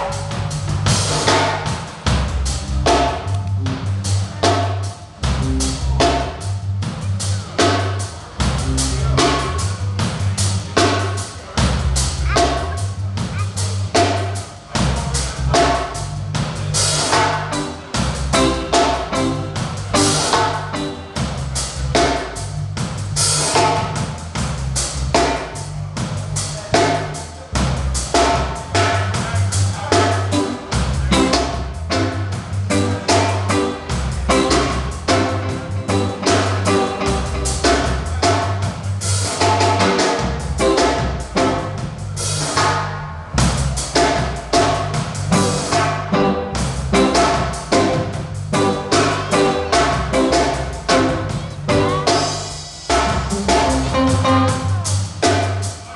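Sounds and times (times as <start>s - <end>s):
drum kit beat: 0.0s - 55.9s
low bass notes: 0.0s - 55.9s.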